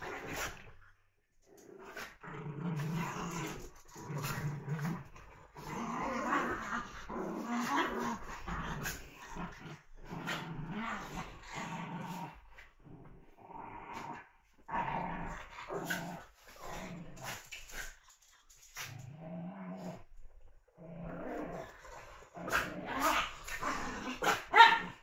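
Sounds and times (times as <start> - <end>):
small dogs growling in play: 0.0 - 25.0.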